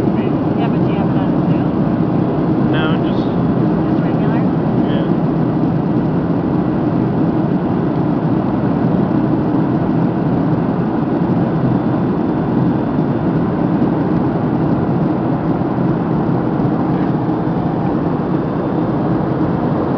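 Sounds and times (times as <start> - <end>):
jet engines and airflow in cabin: 0.0 - 19.9.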